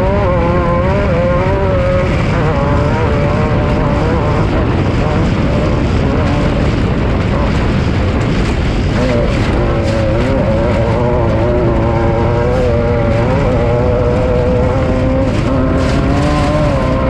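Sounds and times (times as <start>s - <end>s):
heavy constant rumble: 0.0s - 17.0s
race vehicle engine revving: 0.0s - 17.0s.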